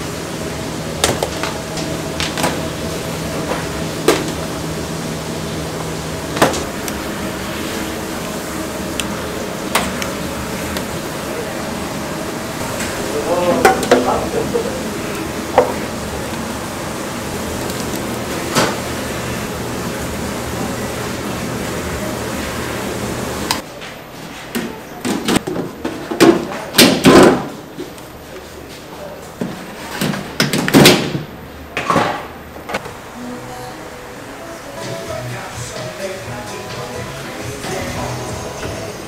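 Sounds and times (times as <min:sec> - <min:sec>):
kitchen background noise: 0:00.0 - 0:33.2.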